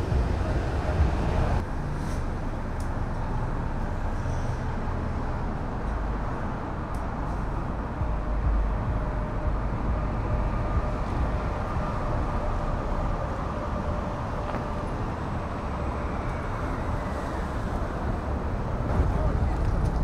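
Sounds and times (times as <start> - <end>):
faint engine hum: 0.0 - 20.0
traffic rumble: 0.0 - 20.0.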